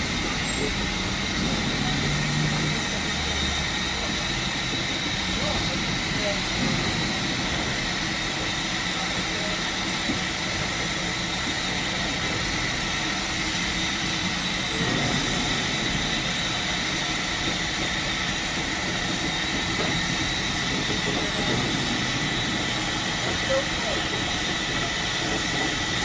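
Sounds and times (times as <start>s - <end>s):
train rumble and hiss: 0.0s - 26.0s.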